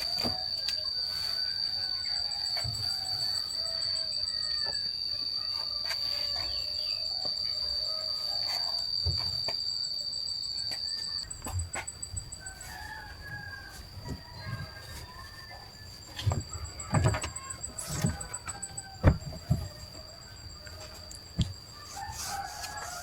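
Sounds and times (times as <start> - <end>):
rooster crowing: 0.0 - 9.0, 12.2 - 23.0
insects trilling: 0.0 - 23.0
pulsing insect trill: 0.0 - 23.0.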